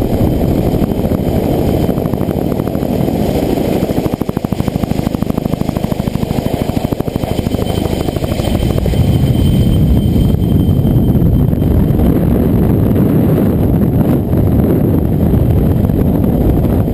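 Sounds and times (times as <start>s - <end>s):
helicopter rotor beat: 0.0s - 16.9s
rush of rotor and wind noise: 0.0s - 16.9s.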